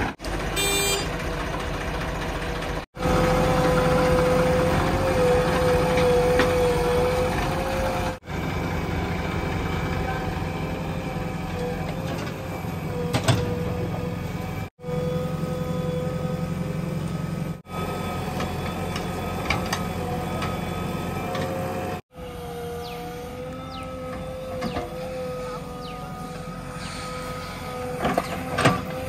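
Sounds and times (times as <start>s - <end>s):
diesel engine whining under load: 0.0s - 29.0s
tractor engine running: 0.0s - 29.0s.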